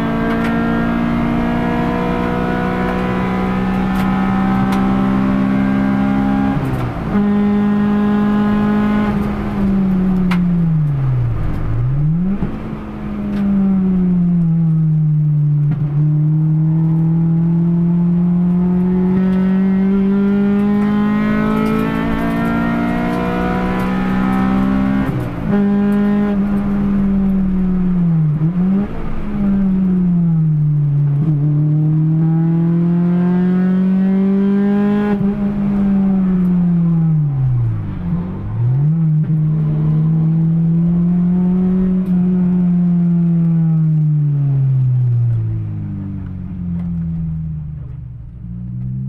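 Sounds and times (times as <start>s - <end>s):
car engine at high revs: 0.0s - 49.0s.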